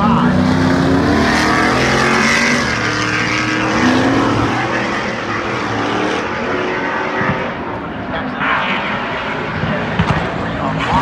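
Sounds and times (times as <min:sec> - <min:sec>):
racing engines revving: 0:00.0 - 0:11.0.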